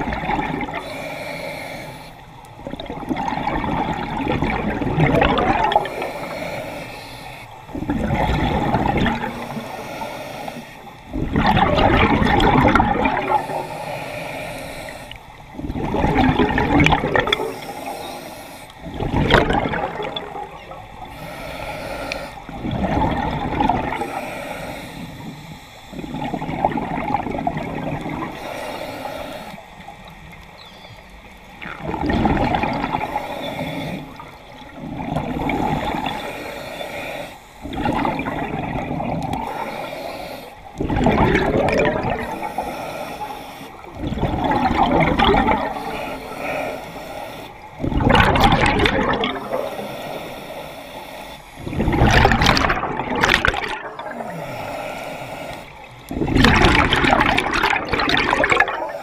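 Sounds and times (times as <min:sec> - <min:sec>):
underwater exhaled bubbles: 0:00.0 - 0:59.0
diver inhaling through regulator: 0:00.2 - 0:02.4, 0:03.8 - 0:11.4, 0:12.2 - 0:30.1, 0:31.9 - 0:59.0.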